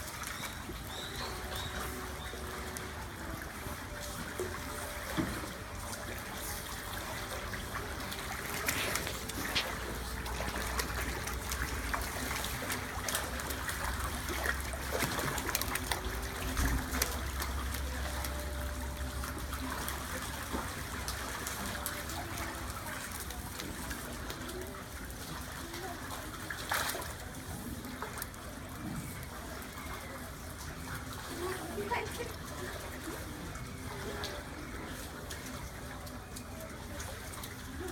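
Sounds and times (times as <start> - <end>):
water splashing and dripping: 0.0 - 37.9
water trickling: 0.0 - 37.9.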